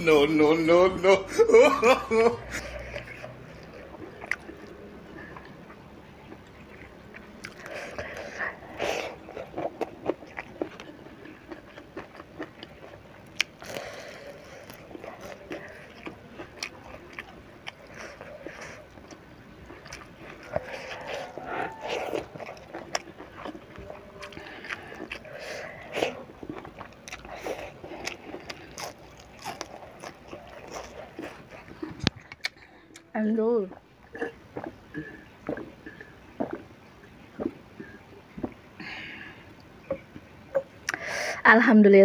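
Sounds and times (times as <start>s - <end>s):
crunchy chewing: 2.5s - 33.1s, 33.7s - 38.6s.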